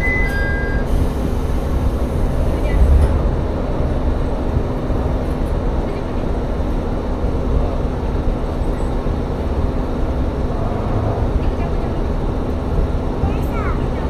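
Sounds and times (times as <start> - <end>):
railcar engine hum: 0.0 - 14.0.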